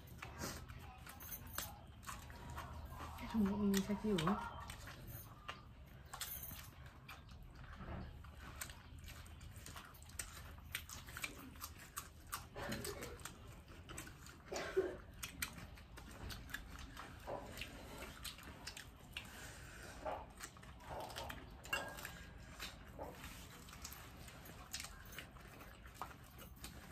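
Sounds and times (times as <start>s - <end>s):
people chewing and crunching: 0.0s - 26.9s.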